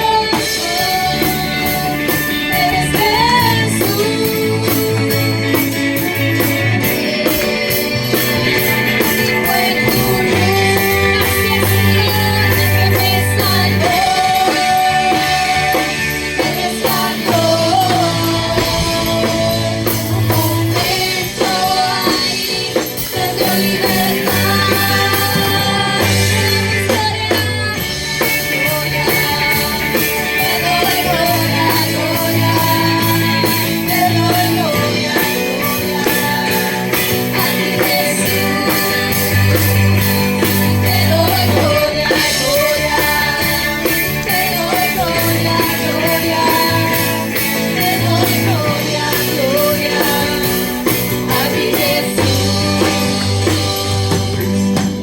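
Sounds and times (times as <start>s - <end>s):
worship song with band: 0.0s - 55.0s.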